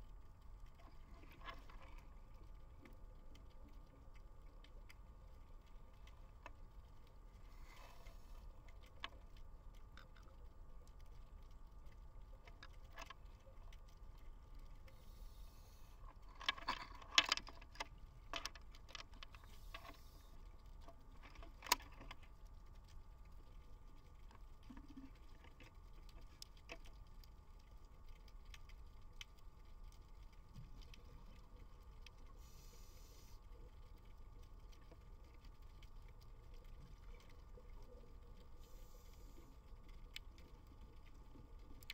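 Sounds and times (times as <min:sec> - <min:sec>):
underwater low hum: 0:00.0 - 0:41.9.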